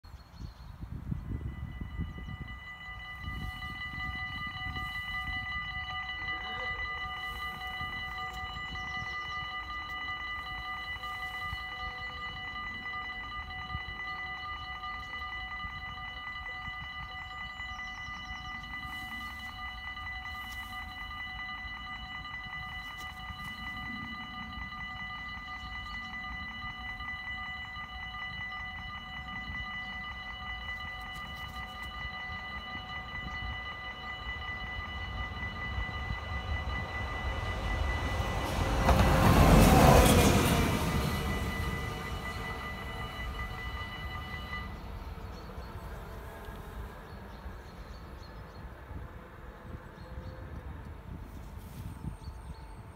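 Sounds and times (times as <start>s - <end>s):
level crossing bells ringing: 0.9s - 52.9s.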